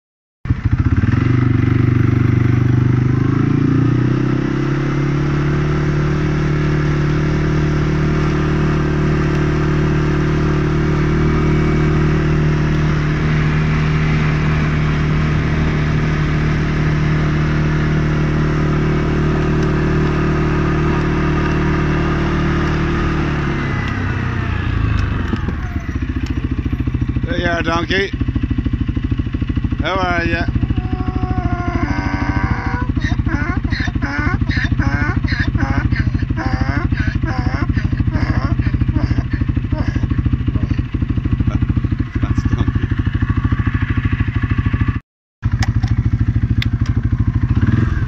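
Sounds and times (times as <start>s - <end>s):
tractor engine running: 8.1s - 48.0s.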